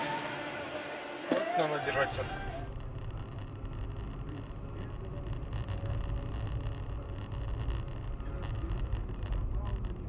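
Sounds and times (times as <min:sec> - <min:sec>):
car driving at highway speed: 0:00.0 - 0:10.0.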